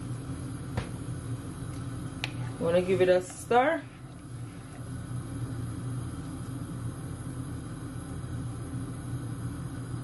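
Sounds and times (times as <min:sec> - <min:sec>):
water heating on gas stove: 0:00.0 - 0:10.0.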